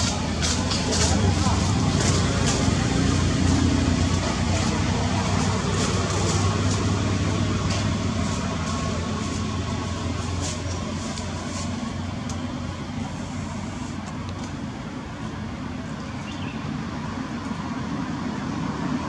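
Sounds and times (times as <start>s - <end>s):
low vehicle engine hum: 0.0s - 19.0s.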